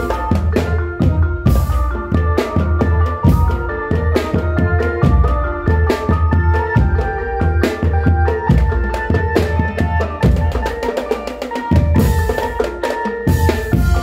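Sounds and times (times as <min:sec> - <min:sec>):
drum kit beat: 0:00.0 - 0:14.0
held melody line: 0:00.0 - 0:14.0.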